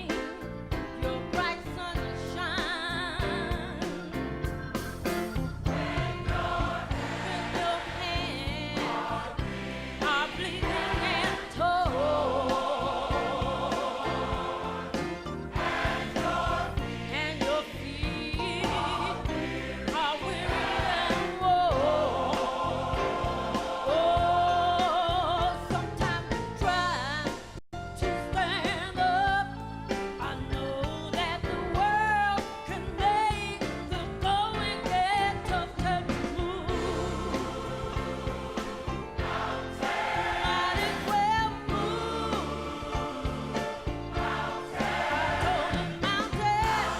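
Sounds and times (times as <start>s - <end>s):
gospel choir singing: 0.0s - 27.6s, 35.6s - 46.9s
instrumental band: 0.0s - 46.9s.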